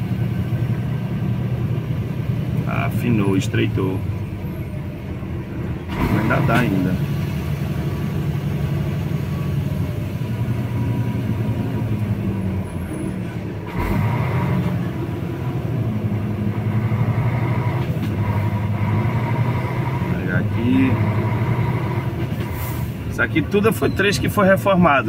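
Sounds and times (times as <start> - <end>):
tyre and road noise: 0.0 - 25.0
vehicle engine running: 0.0 - 25.0.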